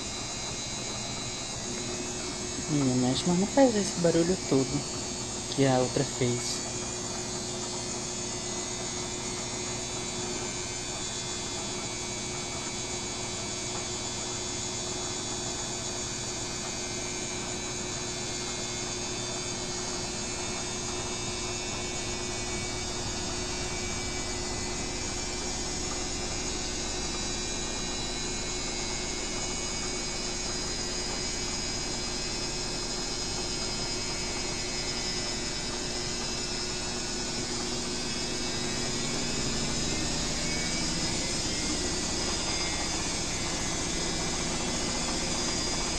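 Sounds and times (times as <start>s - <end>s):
washing machine motor humming: 0.0s - 45.9s.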